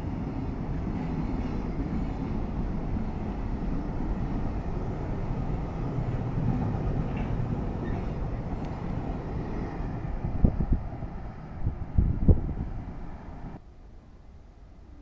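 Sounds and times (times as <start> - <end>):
freight train wheels rumbling: 0.0 - 13.6.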